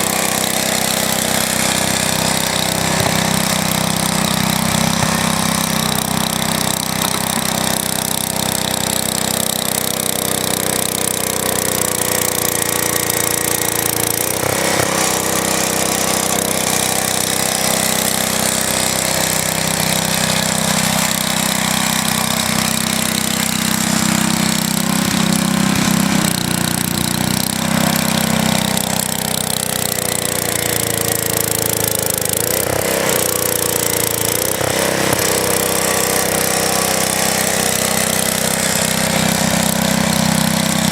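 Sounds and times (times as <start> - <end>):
garden tractor engine running: 0.0 - 40.9.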